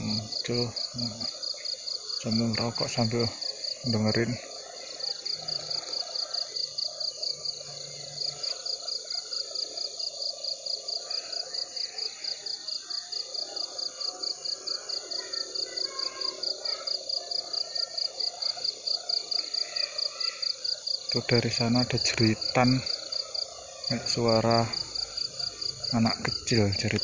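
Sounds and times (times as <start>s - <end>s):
crickets chirping: 0.0s - 27.0s
frogs calling: 0.0s - 27.0s.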